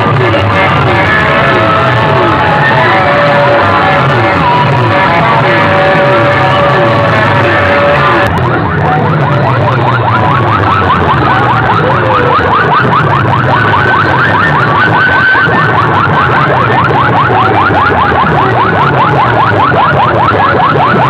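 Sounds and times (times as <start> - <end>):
loud music: 0.0 - 21.0
low bass line: 0.0 - 21.0
siren-like rising chirps: 0.0 - 21.0.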